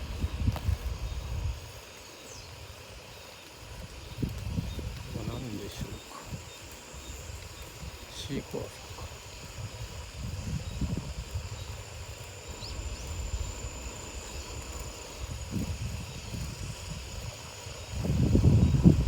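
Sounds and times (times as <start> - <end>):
wind buffeting microphone: 0.0 - 2.8, 3.6 - 19.0
high-pitched insect call: 0.0 - 19.0.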